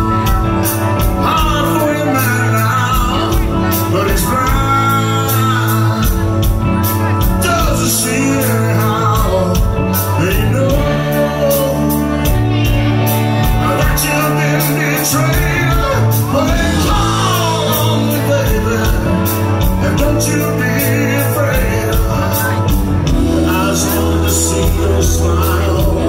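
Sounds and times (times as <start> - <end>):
bass guitar: 0.0 - 26.0
electric guitars: 0.0 - 26.0
person singing: 0.0 - 26.0.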